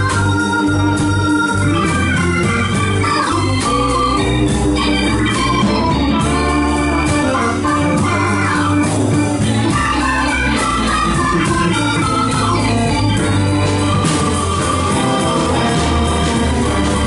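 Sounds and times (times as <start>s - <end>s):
drums: 0.0s - 17.0s
electric bass: 0.0s - 17.0s
organ chords: 0.0s - 17.0s.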